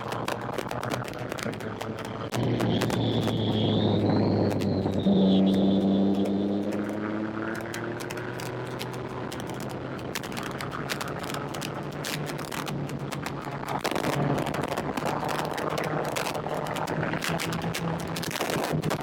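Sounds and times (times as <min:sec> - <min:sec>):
irregular crackling: 0:00.0 - 0:19.0
motorcycle engine running: 0:00.0 - 0:19.0.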